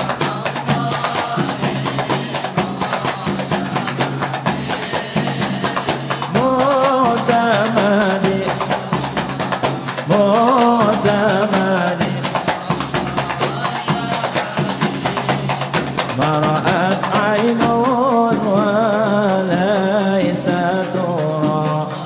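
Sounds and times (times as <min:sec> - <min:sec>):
large frame drum: 0:00.0 - 0:22.0
men singing ornamented phrases: 0:00.0 - 0:22.0
small hand drums rhythm: 0:00.0 - 0:22.0.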